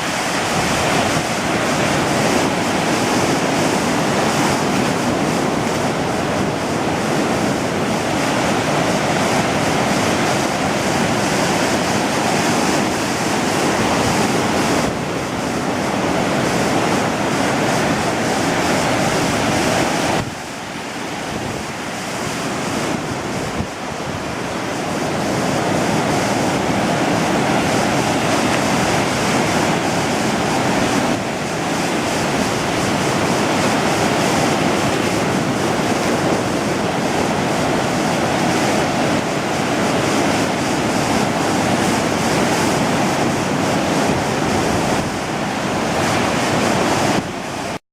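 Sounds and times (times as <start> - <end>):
ocean surf on beach: 0.0 - 47.8
wind buffeting microphone: 0.0 - 47.8.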